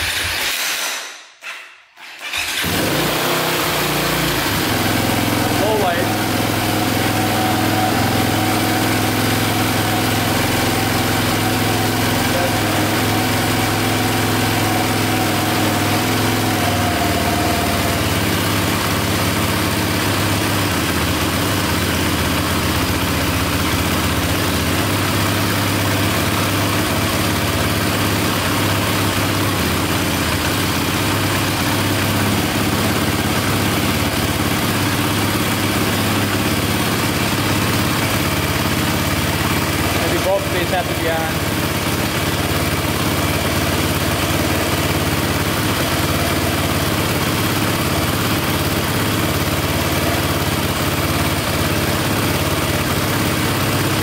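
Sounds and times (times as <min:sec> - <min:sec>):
dirt bike engine idling: 0:02.4 - 0:54.0.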